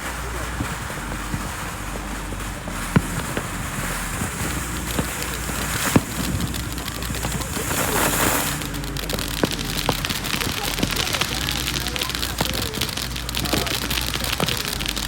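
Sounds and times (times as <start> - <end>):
sharp firework pops: 0.0 - 15.0
steady crackling hiss: 0.0 - 15.0.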